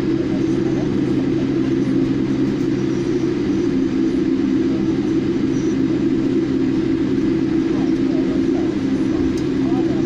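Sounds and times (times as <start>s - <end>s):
jet engine hum in cabin: 0.0s - 10.0s.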